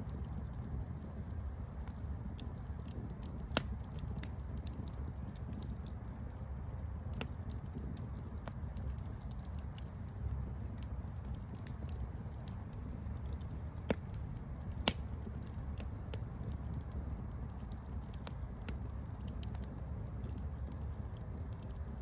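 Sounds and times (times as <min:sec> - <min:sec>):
campfire crackling: 0:00.0 - 0:22.0
loud fire pops: 0:01.8 - 0:06.0, 0:06.6 - 0:22.0.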